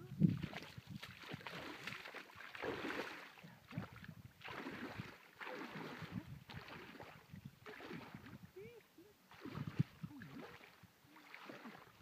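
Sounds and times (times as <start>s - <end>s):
wading footsteps in shallow water: 0.0s - 12.0s.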